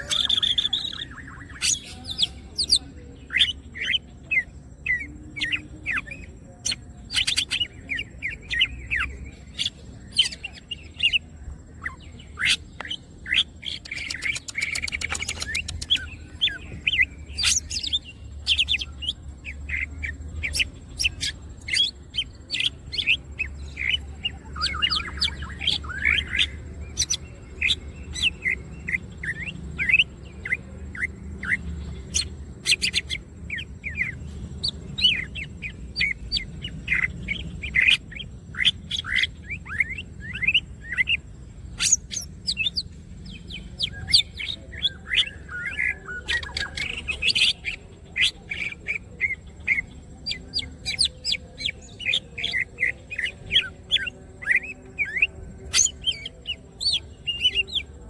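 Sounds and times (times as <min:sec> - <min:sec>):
bird singing chirps and whistles: 0:00.0 - 0:58.0.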